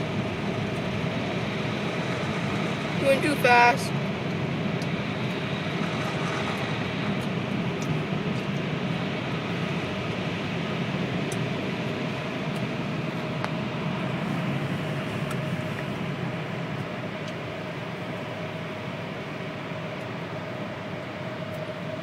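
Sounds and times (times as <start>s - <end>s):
faint steady whine: 0.0s - 22.0s
rushing hum inside a car: 0.0s - 22.0s.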